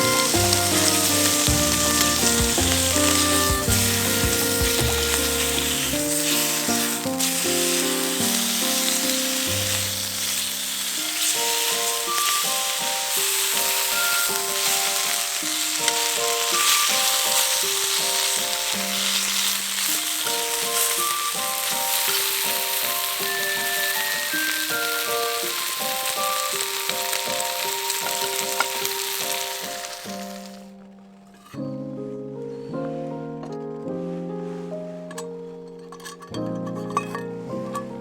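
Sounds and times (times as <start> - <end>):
food sizzling in frying: 0.0 - 30.7
gentle background music: 0.0 - 38.0.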